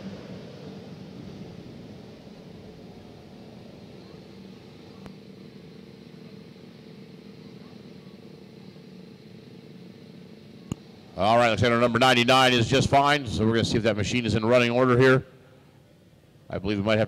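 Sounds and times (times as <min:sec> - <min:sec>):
distant kart engines humming: 0:00.0 - 0:17.0.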